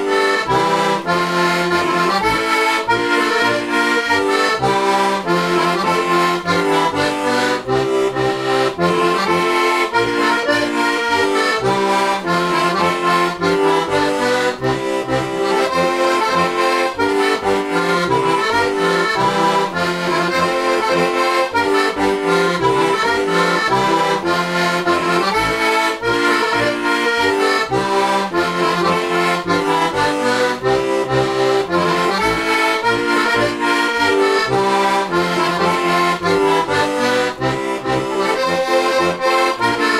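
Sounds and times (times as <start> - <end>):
button accordion folk tune: 0.0 - 39.9.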